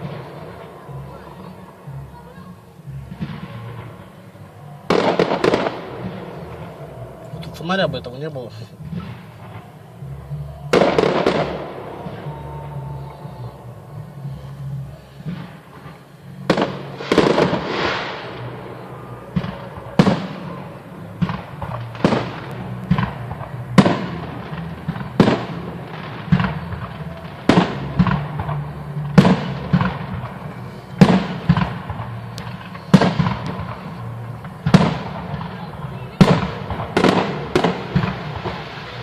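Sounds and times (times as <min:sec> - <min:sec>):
fireworks crackling: 0:00.0 - 0:39.0
fireworks shells bursting: 0:00.0 - 0:39.0.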